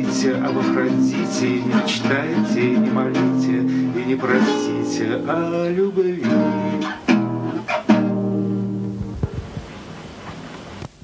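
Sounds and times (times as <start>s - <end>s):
acoustic guitar strummed and plucked: 0.0s - 9.6s.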